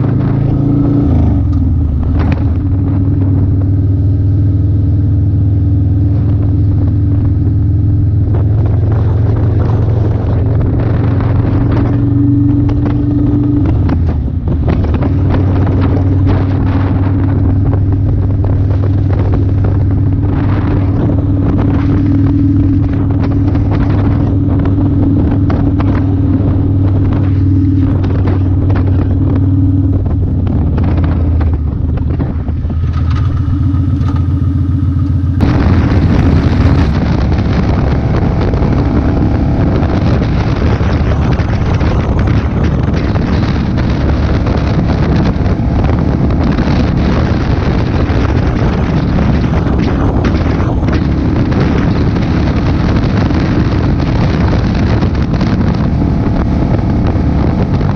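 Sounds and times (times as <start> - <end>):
motorcycle engine cruising: 0.0 - 57.9
wind buffeting microphone: 0.0 - 57.9.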